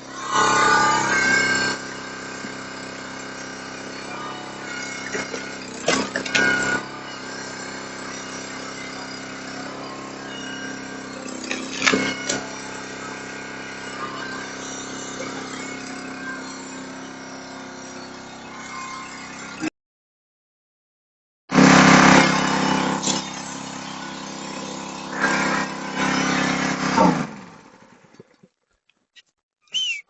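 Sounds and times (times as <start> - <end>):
small engine running: 0.0 - 19.7, 21.5 - 28.2.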